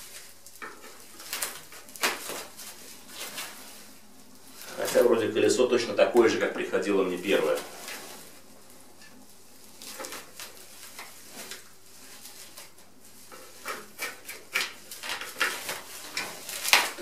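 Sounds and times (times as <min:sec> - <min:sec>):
plastic film rustling and crackling: 0:00.0 - 0:17.0.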